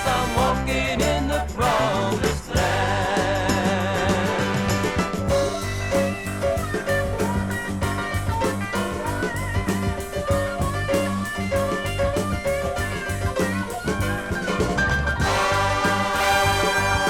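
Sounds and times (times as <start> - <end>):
band playing upbeat gospel music: 0.0 - 17.0.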